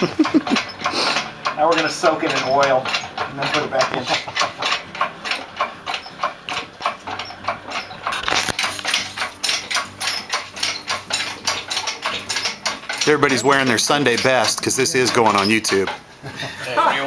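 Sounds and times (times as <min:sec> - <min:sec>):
ratchet wrench clicking: 0:00.0 - 0:16.0.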